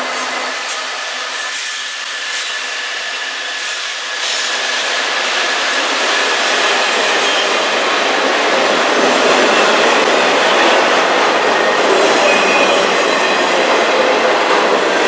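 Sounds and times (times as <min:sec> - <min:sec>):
freight train rushing: 0:00.0 - 0:15.0.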